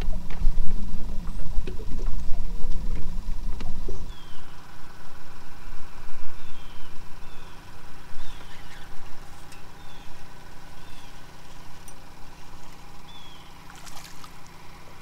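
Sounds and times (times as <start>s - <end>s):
low rumble: 0.0s - 14.3s
birds chirping: 0.0s - 15.0s
faint hum: 0.0s - 15.0s.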